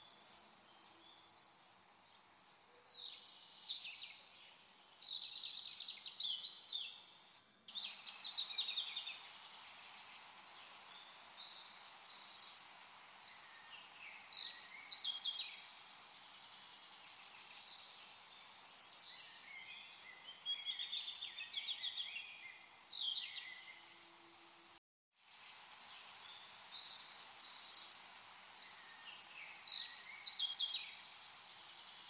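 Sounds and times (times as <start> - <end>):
faint steady hiss: 0.0 - 32.0
small birds chirping: 0.0 - 32.0.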